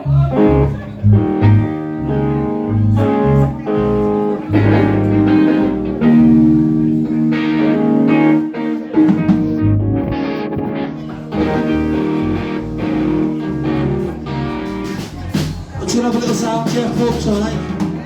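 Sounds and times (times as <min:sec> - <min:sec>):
low bass notes: 0:00.0 - 0:08.5, 0:09.1 - 0:17.8
electric guitar playing: 0:00.0 - 0:18.0.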